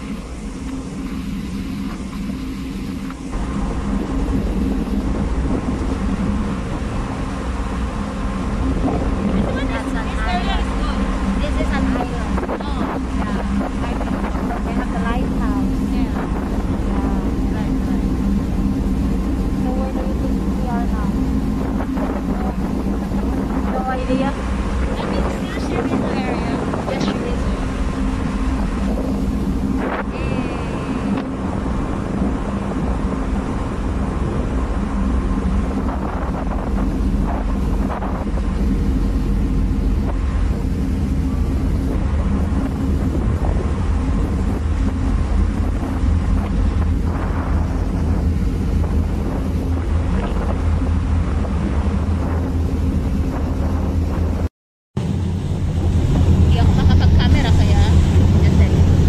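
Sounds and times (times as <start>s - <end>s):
ship engine hum and rumble: 0.0s - 59.0s
wind buffeting microphone: 0.0s - 59.0s.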